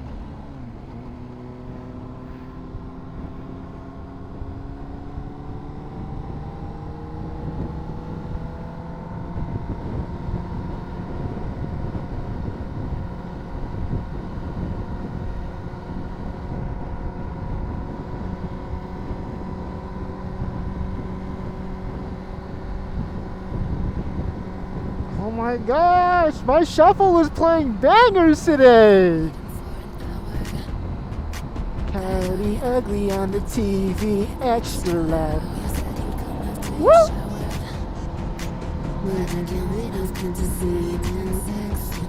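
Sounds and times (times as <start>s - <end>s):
motorcycle engine accelerating: 0.0s - 26.8s, 28.7s - 42.0s.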